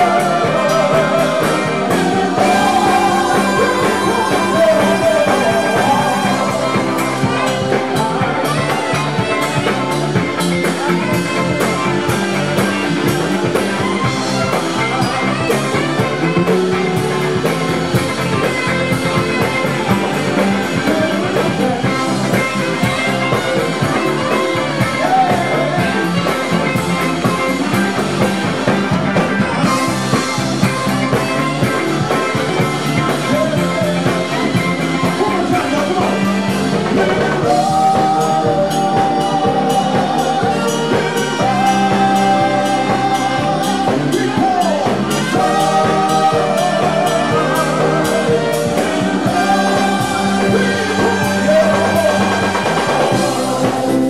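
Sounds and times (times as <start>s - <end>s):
man singing: 0.0s - 27.6s, 29.5s - 54.0s
live dance band playing: 0.0s - 54.0s
steady drum beat: 0.0s - 54.0s.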